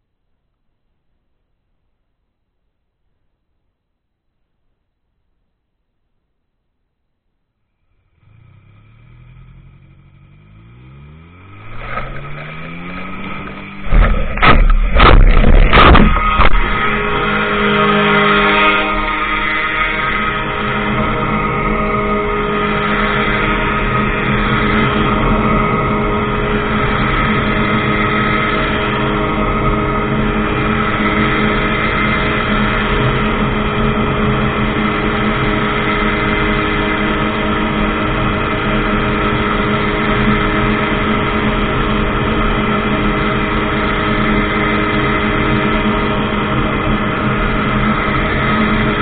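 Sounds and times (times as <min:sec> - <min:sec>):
aircraft engine and propeller droning: 0:08.3 - 0:49.0.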